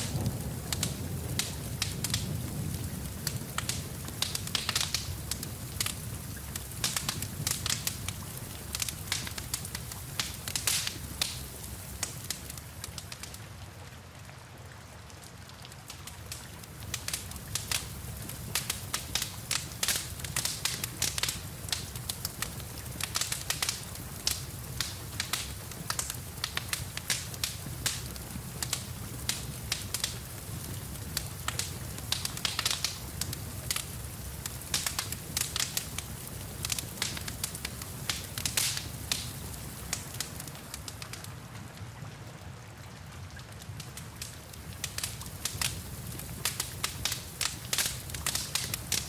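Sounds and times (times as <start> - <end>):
rain hissing: 0.0 - 13.7, 15.8 - 42.0, 43.7 - 49.0
wood fire crackling: 0.0 - 49.0.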